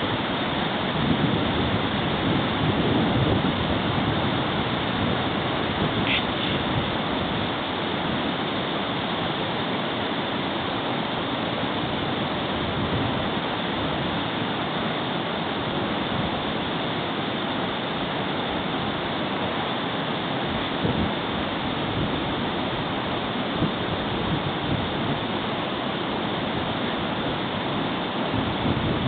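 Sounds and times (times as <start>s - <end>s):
flowing river water: 0.0s - 29.0s.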